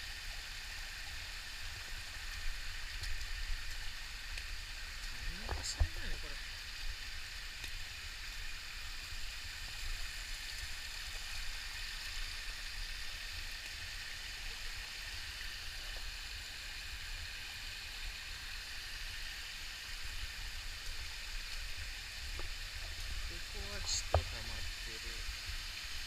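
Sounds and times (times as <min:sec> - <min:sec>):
water rushing over rocks: 0:00.1 - 0:26.0.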